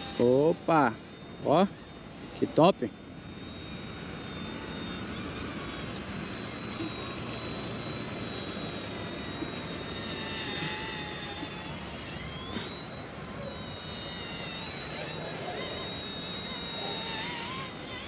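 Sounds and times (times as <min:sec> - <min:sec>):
remote-control helicopter whine: 0:00.0 - 0:18.0.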